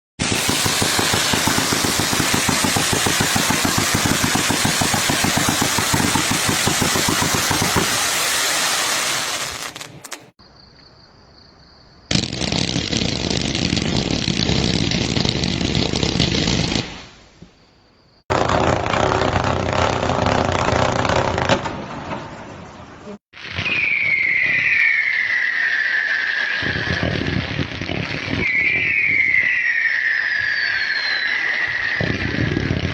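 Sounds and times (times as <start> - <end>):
fireworks popping: 0.2 - 10.4, 12.1 - 17.2, 18.3 - 22.4, 23.3 - 32.9.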